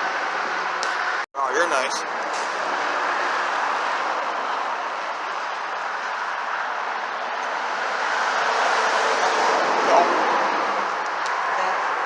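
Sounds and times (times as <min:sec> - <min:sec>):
truck passing: 0:00.0 - 0:12.0.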